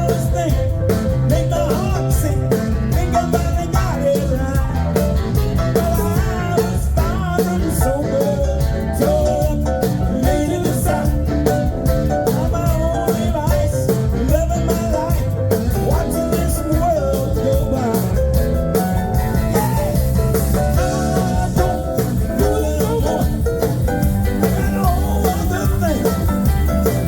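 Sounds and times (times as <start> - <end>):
bass: 0.0 - 27.0
blues band playing: 0.0 - 27.0
steady drum beat: 0.0 - 27.0.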